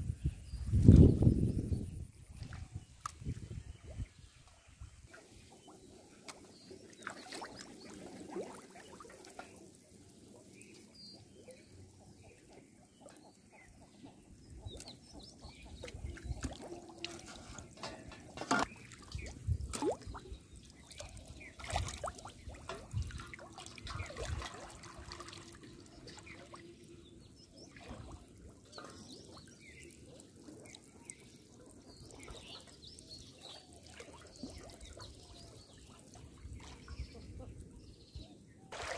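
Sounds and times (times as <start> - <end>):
pond water splashing and dripping: 2.2 - 38.9.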